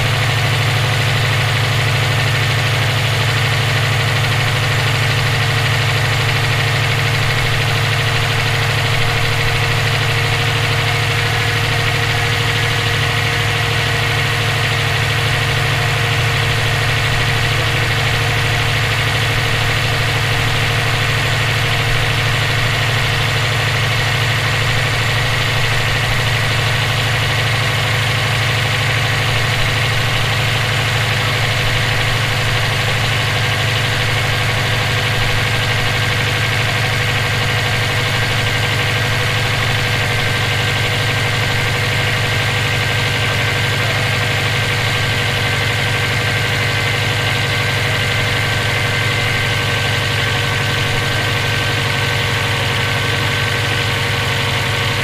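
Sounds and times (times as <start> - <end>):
car engine idling: 0.0 - 55.0
engine knocking: 0.0 - 55.0.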